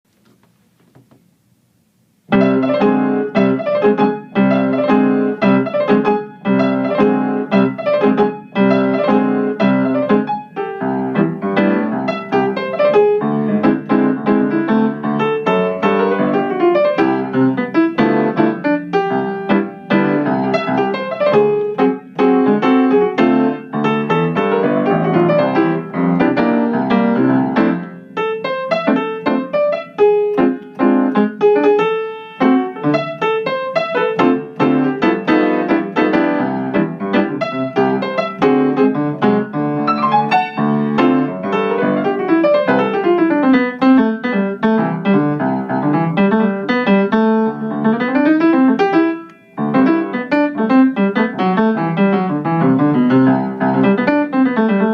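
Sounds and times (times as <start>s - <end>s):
fast piano playing: 2.3s - 54.9s.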